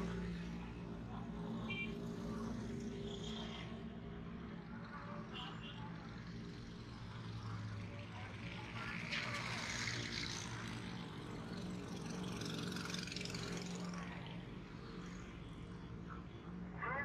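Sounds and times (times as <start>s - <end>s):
motorcycles passing: 0.0s - 17.0s.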